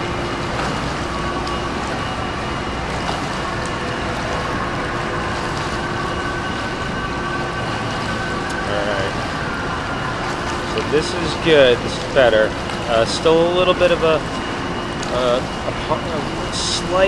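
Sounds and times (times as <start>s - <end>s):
faint constant hum: 0.0s - 17.0s
pool water wash: 0.0s - 17.0s.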